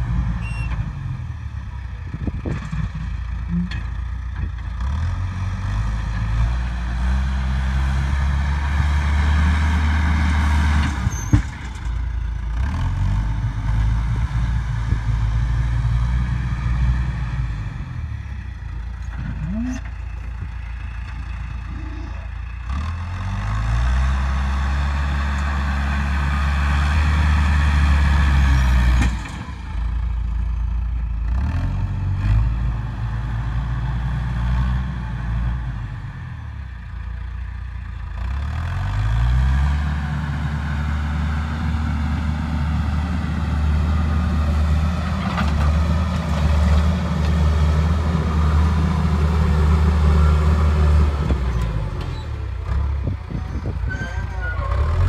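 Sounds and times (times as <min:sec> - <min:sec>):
backhoe diesel engine revving: 0:00.0 - 0:55.0.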